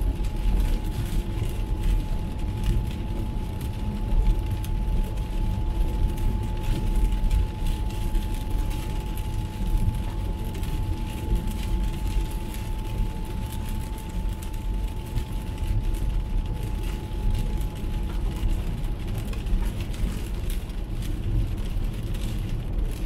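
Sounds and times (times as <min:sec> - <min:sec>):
rain on car: 0:00.0 - 0:23.0.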